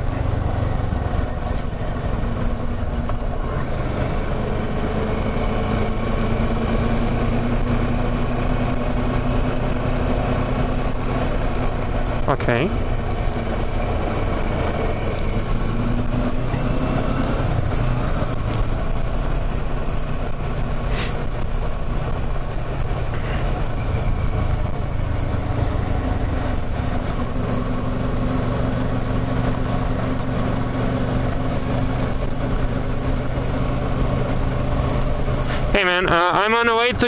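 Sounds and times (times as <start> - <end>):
wind rush of riding: 0.0 - 35.8
motorcycle engine cruising: 0.0 - 37.0.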